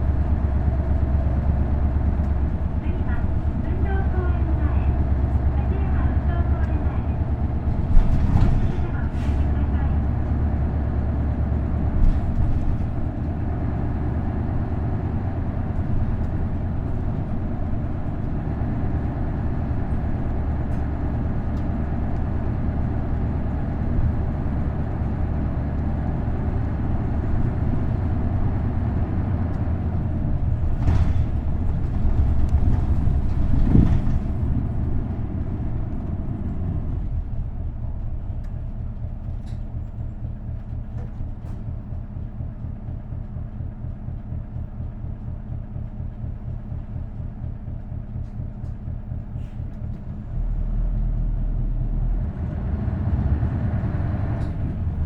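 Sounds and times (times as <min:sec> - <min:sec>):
bus body knocks and rattles: 0:00.0 - 0:50.4
bus engine drone: 0:00.0 - 0:55.0.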